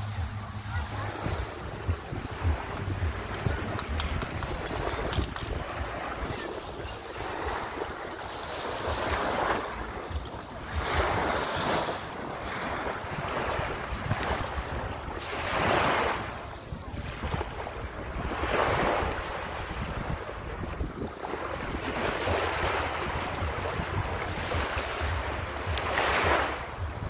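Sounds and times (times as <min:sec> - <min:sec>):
waves washing onto sand: 0:00.0 - 0:27.0
wind on microphone: 0:00.0 - 0:27.0.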